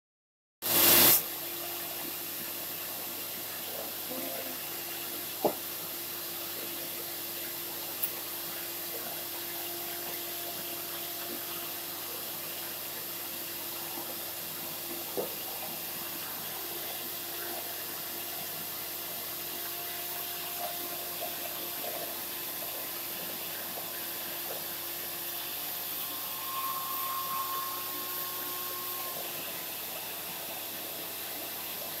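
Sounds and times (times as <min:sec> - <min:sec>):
vacuum cleaner running: 0:00.6 - 0:32.0.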